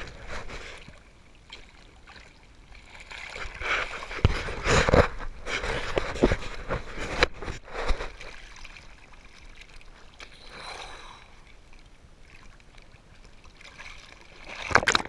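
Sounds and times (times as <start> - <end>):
sea water splashing: 0.0 - 6.6, 7.2 - 15.0.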